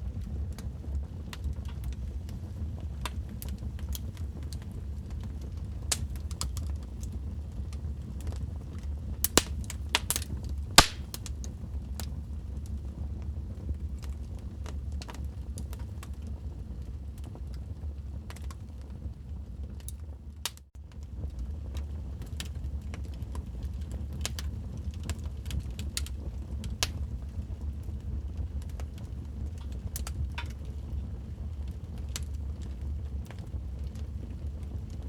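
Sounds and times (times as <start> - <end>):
low rumble of flames: 0.0 - 35.0
wood fire crackling and popping: 0.1 - 35.0.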